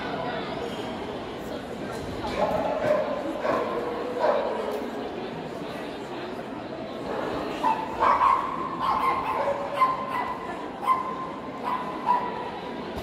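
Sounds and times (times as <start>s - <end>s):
murmur of large hall: 0.0s - 13.0s.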